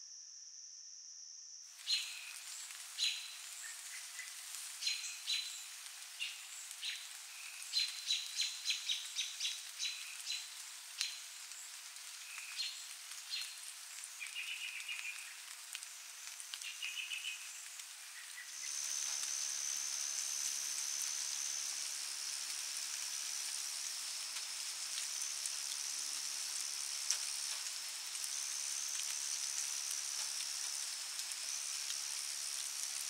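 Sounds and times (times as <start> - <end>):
insect trills: 0.0 - 33.0
steady high hiss: 1.5 - 33.0
insects clicking calls: 1.8 - 33.0.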